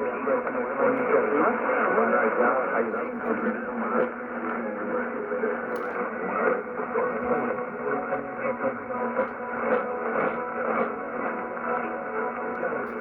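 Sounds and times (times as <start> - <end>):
radio static: 0.0 - 13.0.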